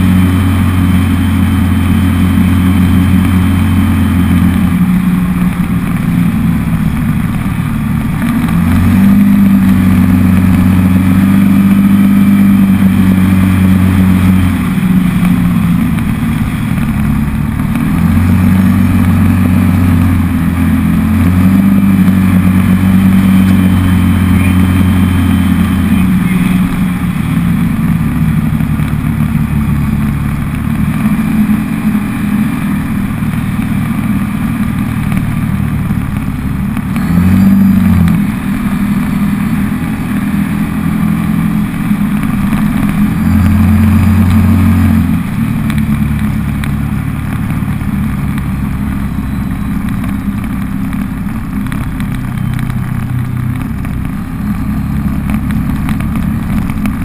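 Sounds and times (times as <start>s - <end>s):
vehicle engine revving: 0.0s - 57.0s.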